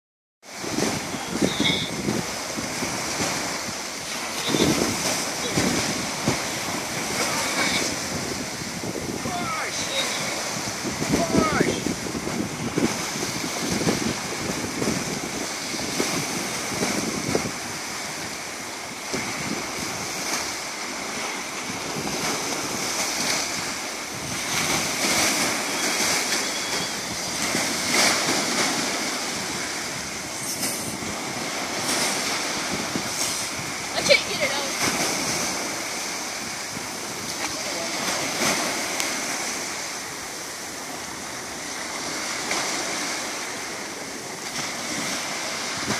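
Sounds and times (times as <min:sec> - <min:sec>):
small waves washing on shore: 0:00.4 - 0:45.9
wind on microphone: 0:00.5 - 0:45.9.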